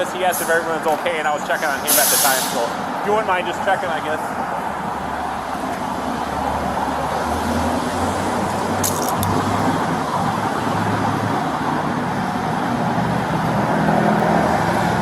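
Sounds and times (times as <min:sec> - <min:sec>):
roadway traffic hum: 0:00.0 - 0:15.0.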